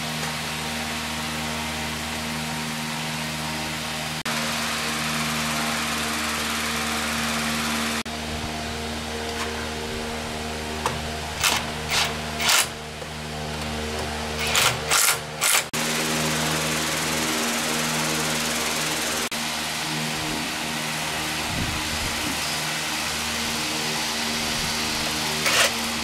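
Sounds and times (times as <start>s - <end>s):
machine humming and hissing: 0.0s - 26.0s.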